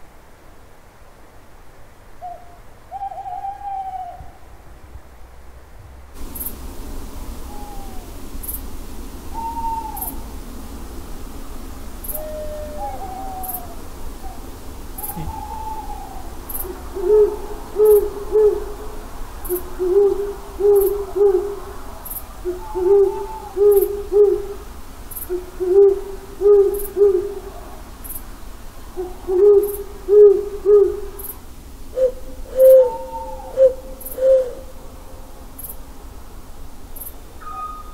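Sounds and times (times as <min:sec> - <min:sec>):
higher wavering owl calls: 0:02.2 - 0:04.4, 0:06.2 - 0:28.2, 0:28.9 - 0:35.8, 0:37.0 - 0:37.9
owl hooting: 0:02.2 - 0:04.4, 0:06.2 - 0:10.8, 0:11.9 - 0:28.2, 0:28.9 - 0:35.8, 0:37.4 - 0:37.9.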